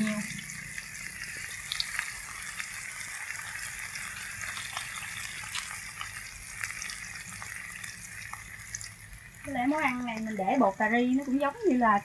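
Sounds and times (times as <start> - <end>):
aromatics frying in oil: 0.0 - 12.0.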